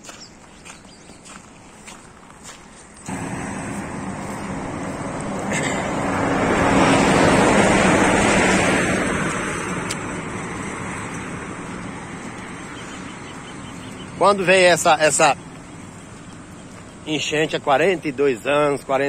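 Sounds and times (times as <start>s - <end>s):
vehicle passing on highway: 1.6s - 19.0s.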